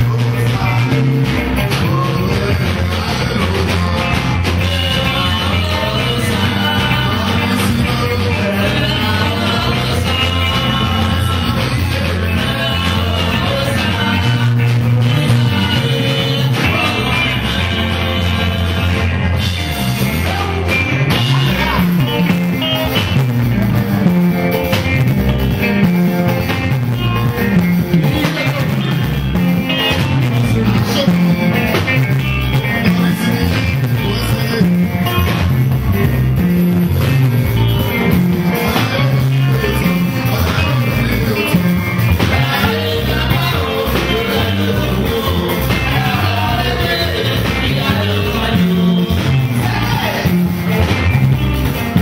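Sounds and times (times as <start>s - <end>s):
person singing: 0.0s - 24.6s, 25.2s - 52.0s
bass line: 0.0s - 52.0s
drum kit dance beat: 0.0s - 52.0s
electric guitars: 0.0s - 52.0s.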